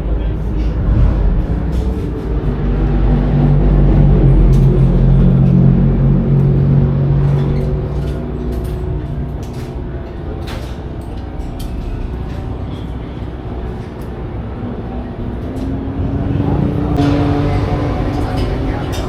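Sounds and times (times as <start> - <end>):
racing car engine rumbling: 0.0 - 19.0.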